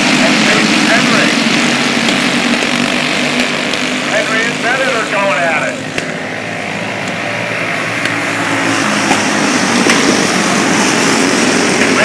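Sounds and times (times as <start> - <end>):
racing kart engines droning: 0.0 - 12.0.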